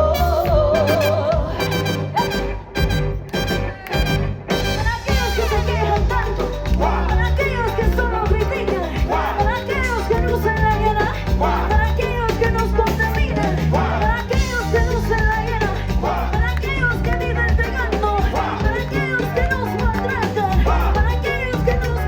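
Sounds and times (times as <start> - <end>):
live band playing salsa music: 0.0 - 22.0.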